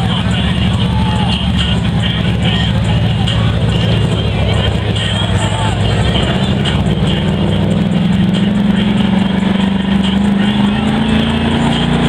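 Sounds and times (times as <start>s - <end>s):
engine at high revs: 0.0s - 12.0s.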